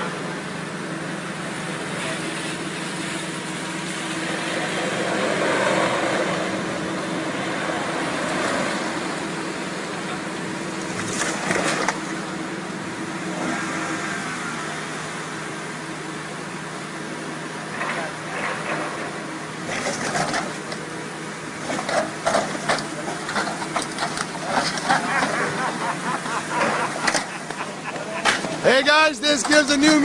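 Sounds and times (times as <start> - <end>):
car engine hum and road rush: 0.0 - 30.0.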